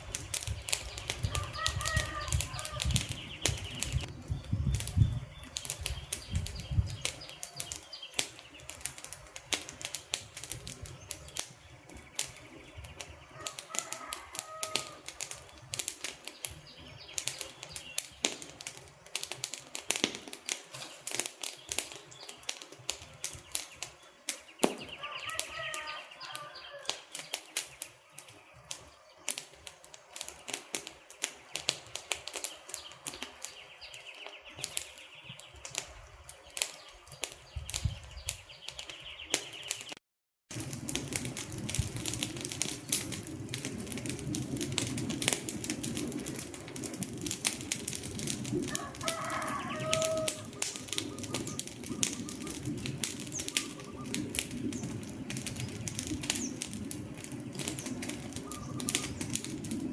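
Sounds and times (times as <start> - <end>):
low rushing of fire: 0.0 - 59.9
wood fire crackling: 0.0 - 59.9.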